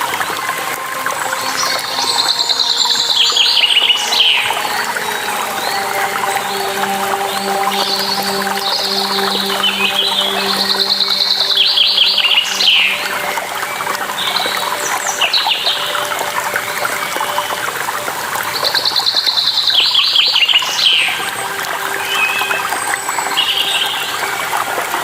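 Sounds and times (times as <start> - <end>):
water rushing and trickling: 0.0 - 25.0.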